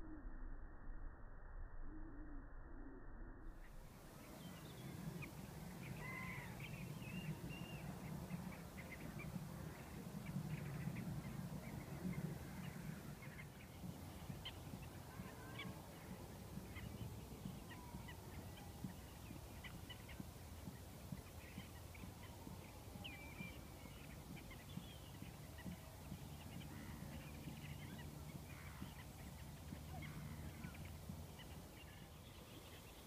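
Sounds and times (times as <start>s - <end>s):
low steady hum: 0.0s - 33.0s
waterbirds calling: 3.8s - 33.0s.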